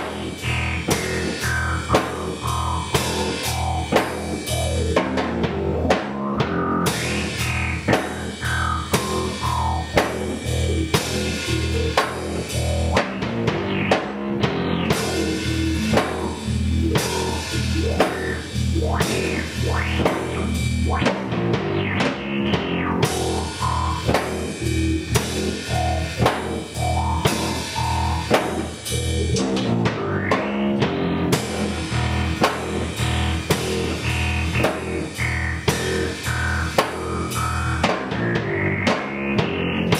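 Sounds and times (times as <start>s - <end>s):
drum kit beat: 0.0s - 39.9s
heavy guitar riff: 0.0s - 39.9s.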